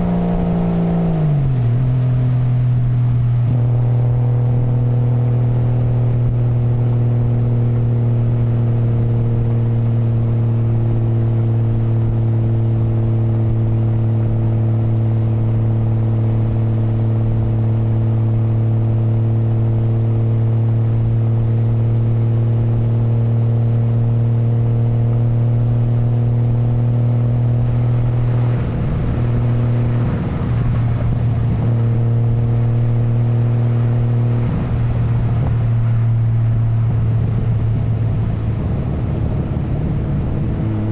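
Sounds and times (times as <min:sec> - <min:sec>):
car exhaust note steady: 0:00.0 - 0:40.9.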